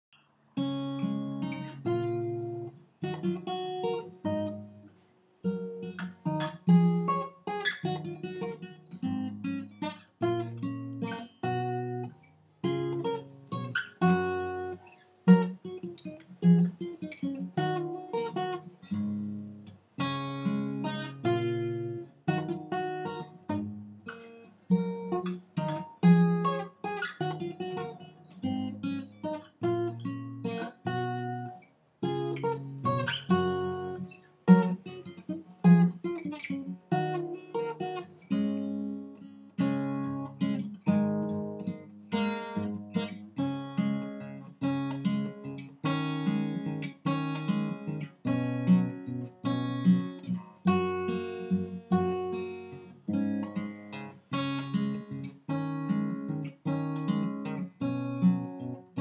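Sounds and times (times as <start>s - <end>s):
acoustic guitar strumming chords: 0.6s - 59.0s.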